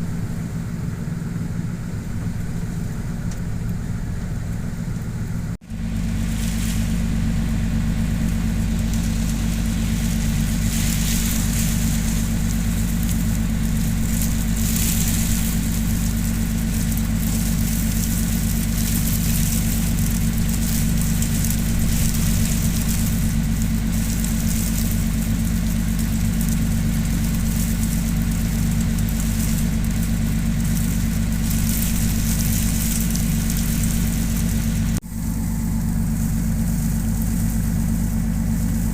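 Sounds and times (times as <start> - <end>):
boat engine running: 0.0 - 38.9
gusting wind: 0.0 - 38.9
rain rushing: 0.0 - 38.9.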